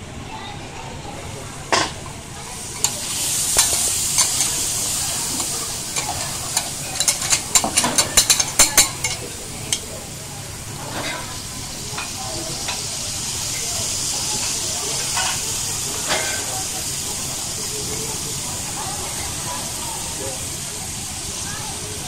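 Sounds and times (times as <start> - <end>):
scallops sizzling on griddle: 1.6 - 22.0.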